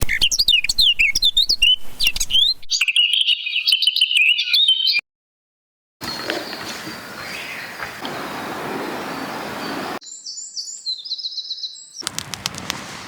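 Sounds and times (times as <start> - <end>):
small songbirds chirping: 0.0 - 5.0, 6.0 - 13.0.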